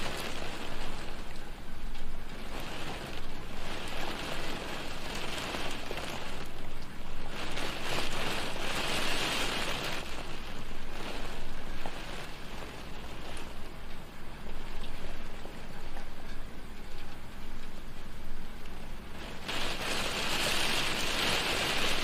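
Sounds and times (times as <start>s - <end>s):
rain hissing on a window: 0.0s - 22.0s
raindrop ticks: 0.0s - 22.0s.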